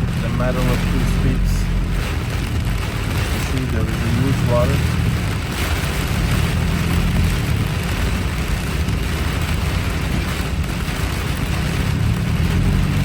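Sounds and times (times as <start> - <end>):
car engine and tyres rumble: 0.0 - 13.0
heavy rain on a car: 0.0 - 13.0.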